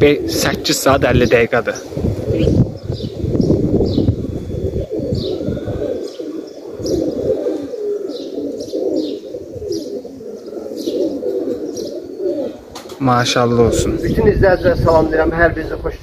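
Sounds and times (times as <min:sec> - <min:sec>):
pigeons cooing: 0:00.0 - 0:15.9
small birds chirping: 0:00.0 - 0:15.9.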